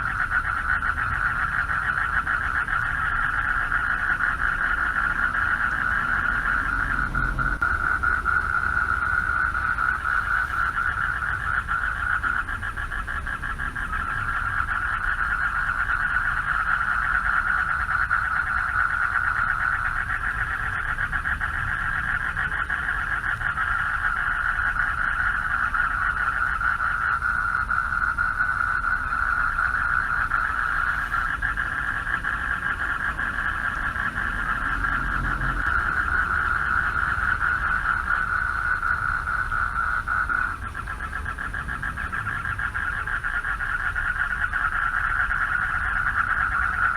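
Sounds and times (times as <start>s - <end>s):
frogs calling: 0.0s - 46.9s.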